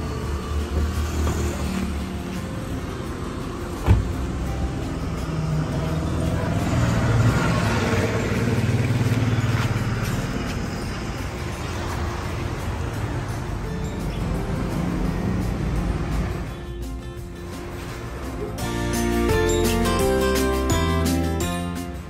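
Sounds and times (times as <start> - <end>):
vehicle engine humming: 0.0 - 20.8.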